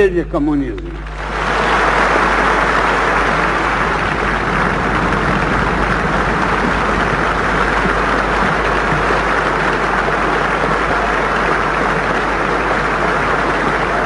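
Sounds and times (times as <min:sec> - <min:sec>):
large audience applauding: 0:00.4 - 0:14.0.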